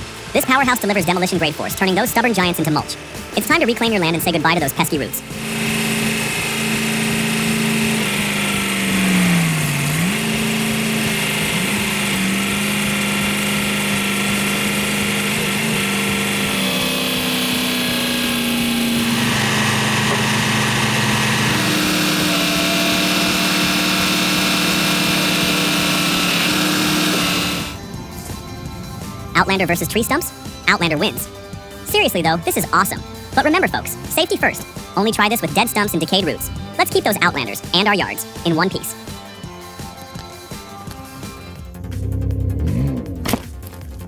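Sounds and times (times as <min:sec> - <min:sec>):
engine running under changing load: 0:00.0 - 0:44.0.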